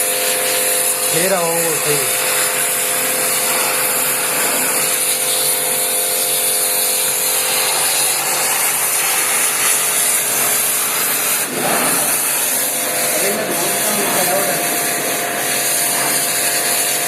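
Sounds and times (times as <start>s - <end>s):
pressure washer motor hum: 0.0s - 17.0s
water spray hissing: 0.0s - 17.0s.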